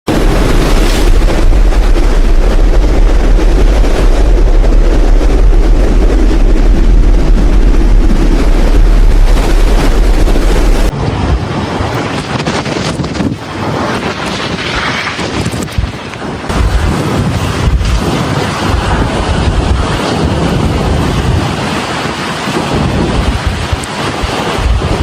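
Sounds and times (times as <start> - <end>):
storm wind roaring: 0.0 - 25.0.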